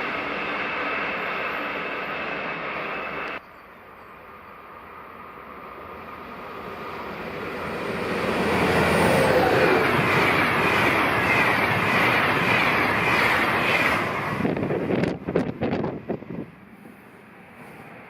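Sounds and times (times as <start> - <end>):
train passing at high speed: 0.0 - 18.0.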